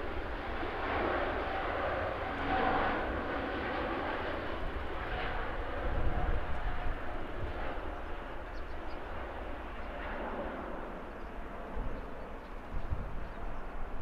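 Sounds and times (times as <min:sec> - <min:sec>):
jet engines roaring at takeoff: 0:00.0 - 0:14.0.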